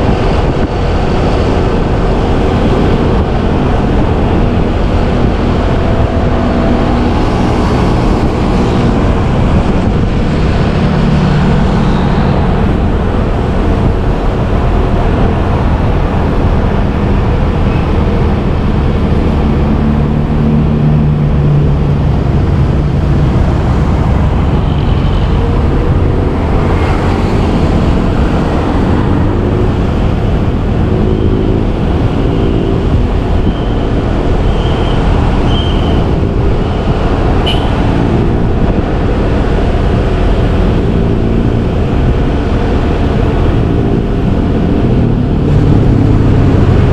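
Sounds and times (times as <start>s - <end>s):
motorbike engine hum: 0.0s - 46.9s
wind rushing on microphone: 0.0s - 46.9s.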